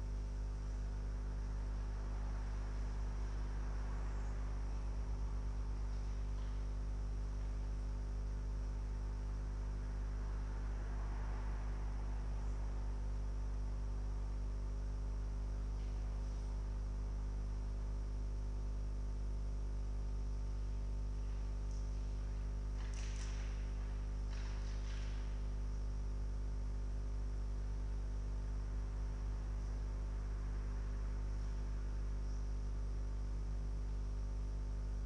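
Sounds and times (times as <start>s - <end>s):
electrical mains hum: 0.0s - 35.0s
faint high-pitched whine: 0.0s - 35.0s.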